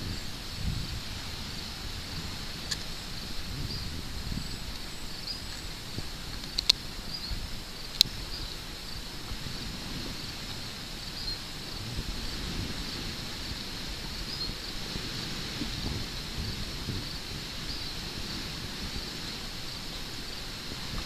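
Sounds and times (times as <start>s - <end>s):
crickets chirping: 0.0s - 21.0s
wind rumble on microphone: 0.0s - 21.0s.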